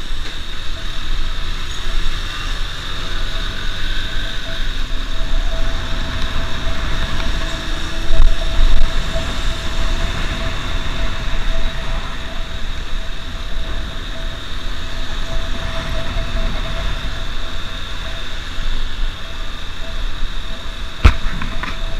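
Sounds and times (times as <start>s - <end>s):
motorcycle engine drone: 0.0s - 21.9s
wind buffeting microphone: 0.0s - 21.9s.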